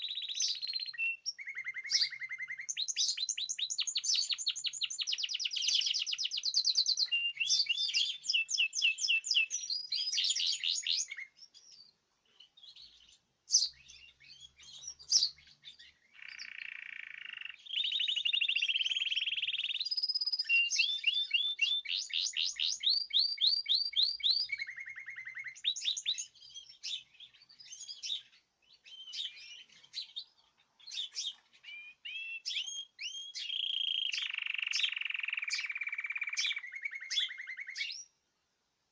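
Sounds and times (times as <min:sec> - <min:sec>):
songbirds singing trills: 0:00.0 - 0:38.2.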